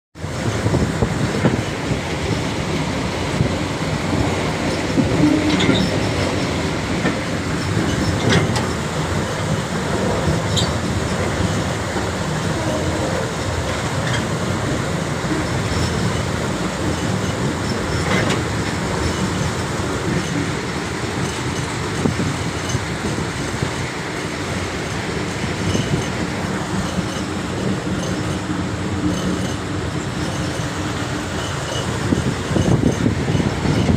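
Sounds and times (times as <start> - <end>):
train rumbling on rails: 0.2 - 33.9.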